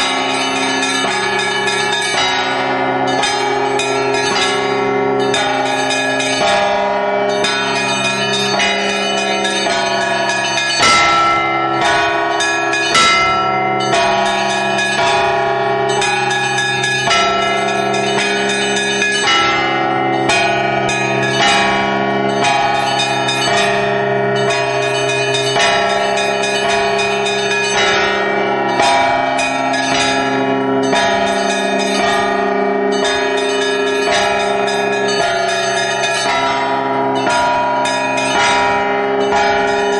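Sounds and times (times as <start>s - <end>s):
large bells sustained tones: 0.0s - 39.9s.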